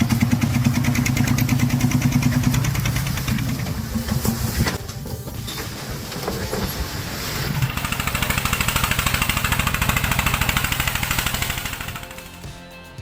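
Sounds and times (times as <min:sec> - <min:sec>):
engine running: 0:00.0 - 0:12.6.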